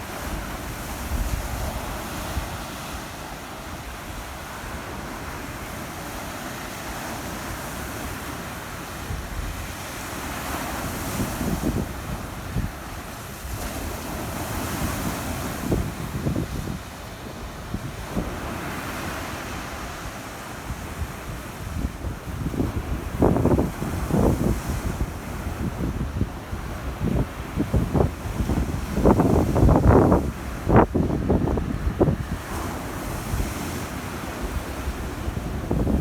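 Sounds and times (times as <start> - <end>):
wind buffeting microphone: 0.0 - 6.2, 9.0 - 36.0
small waves washing on shore: 0.0 - 36.0.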